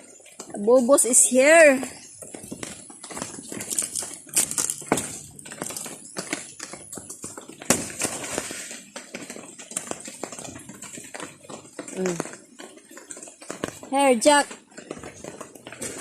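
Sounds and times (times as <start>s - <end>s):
goats chewing leaves: 0.0s - 16.0s.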